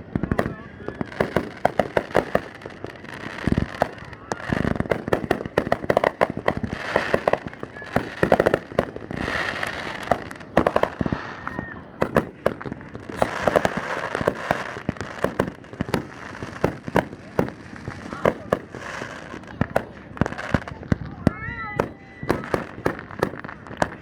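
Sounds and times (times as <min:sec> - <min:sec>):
fireworks bangs and pops: 0:00.0 - 0:24.0
fireworks crackling: 0:00.0 - 0:24.0.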